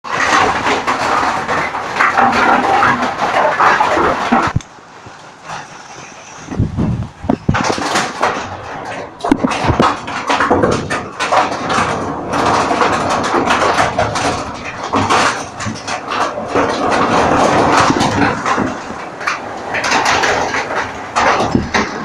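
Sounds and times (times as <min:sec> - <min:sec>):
heavy rain pattering: 0:00.0 - 0:22.0.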